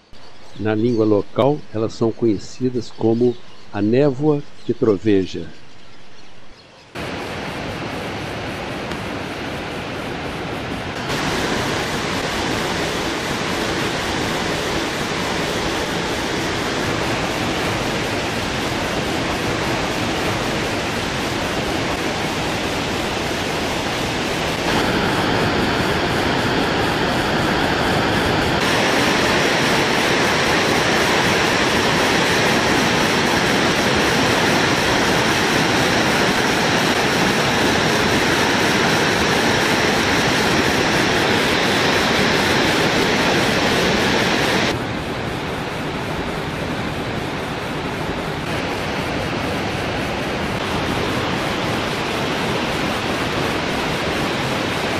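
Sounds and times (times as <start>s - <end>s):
waterfall roaring: 7.0s - 54.9s.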